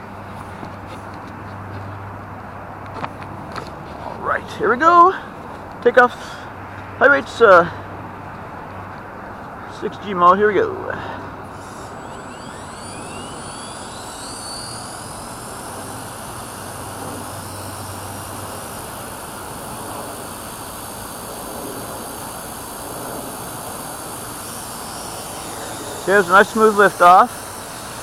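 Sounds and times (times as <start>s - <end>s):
electric motor whine: 0.0s - 28.0s
helicopter rotor noise: 0.0s - 28.0s.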